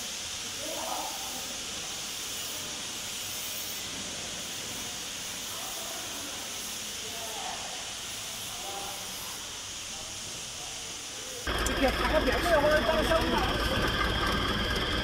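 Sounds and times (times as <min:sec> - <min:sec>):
factory hall hiss: 0:00.0 - 0:15.0.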